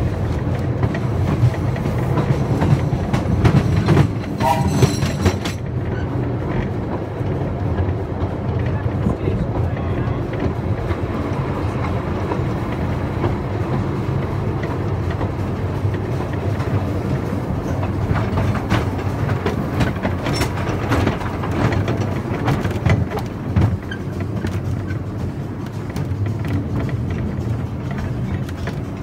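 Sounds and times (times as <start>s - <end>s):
train carriage rumbling: 0.0s - 29.0s
wheels clicking over rail joints: 0.0s - 29.0s.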